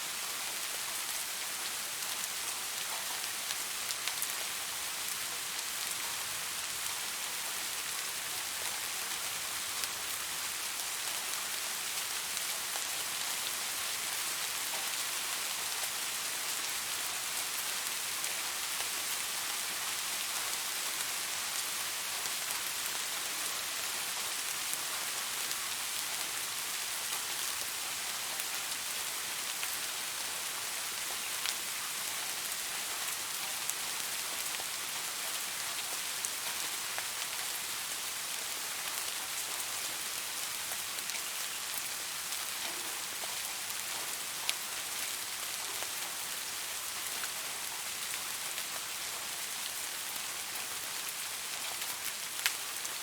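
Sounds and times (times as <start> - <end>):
rain falling on leaves: 0.0 - 53.0.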